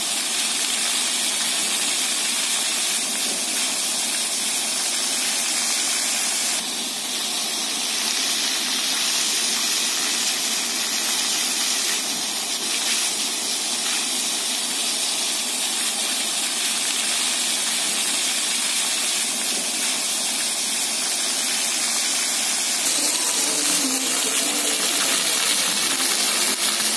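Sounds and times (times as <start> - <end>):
fountain water splashing: 0.0 - 6.6, 7.8 - 26.9.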